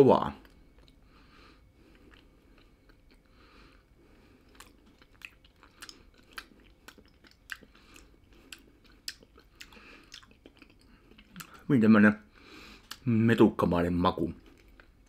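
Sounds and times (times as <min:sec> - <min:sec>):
gums chewing a hard snack: 0:00.3 - 0:11.7, 0:12.8 - 0:13.1, 0:14.4 - 0:15.0.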